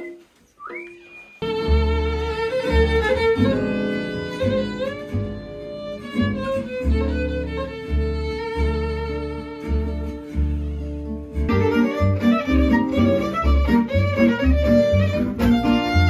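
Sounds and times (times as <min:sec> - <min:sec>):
bowed violin melody: 0:01.4 - 0:16.0
plucked double bass: 0:01.4 - 0:16.0
strummed acoustic guitars: 0:01.4 - 0:16.0.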